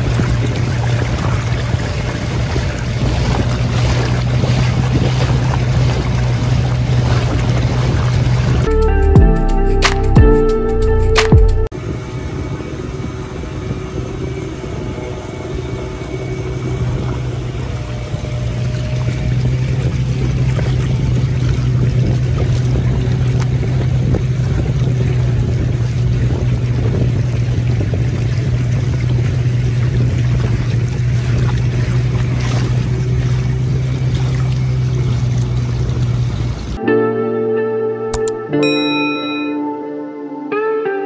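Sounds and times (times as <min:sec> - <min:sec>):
water rushing and splashing: 0:00.0 - 0:08.8, 0:11.2 - 0:36.9
motorboat engine droning: 0:00.0 - 0:41.0.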